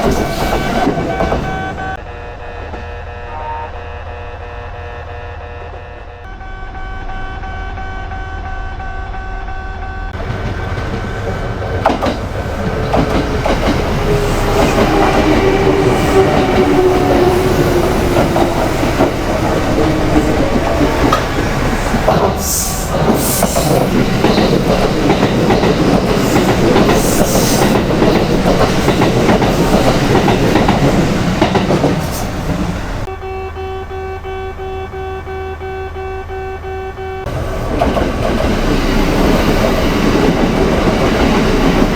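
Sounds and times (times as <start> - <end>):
train passing: 0.0 - 41.9
train falling whine: 5.6 - 41.9.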